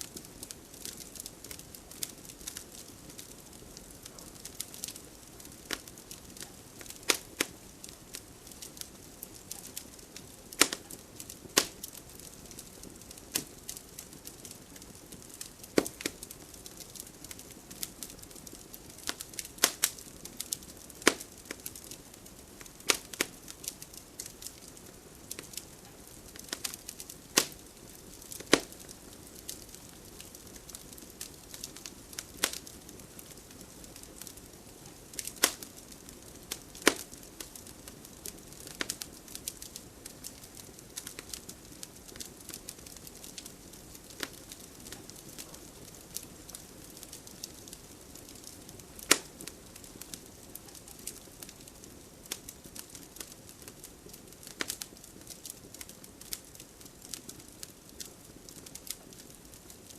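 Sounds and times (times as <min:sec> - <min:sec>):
faint steady hiss: 0:00.0 - 0:59.9
fire crackling and popping: 0:00.0 - 0:59.9.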